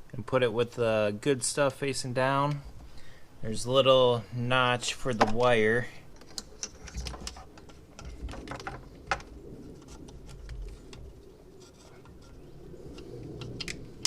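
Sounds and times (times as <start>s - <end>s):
low steady murmur: 0.0s - 14.0s.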